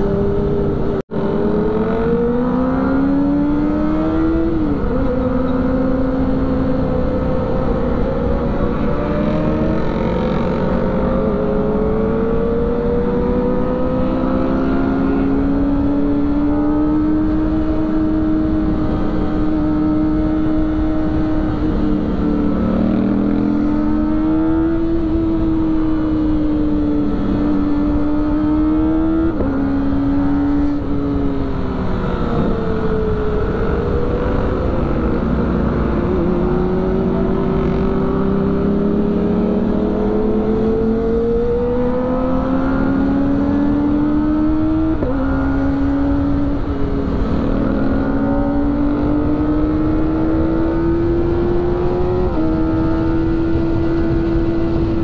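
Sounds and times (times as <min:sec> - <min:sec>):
motorcycle engine at high revs: 0:00.0 - 0:55.0
rushing wind: 0:00.0 - 0:55.0.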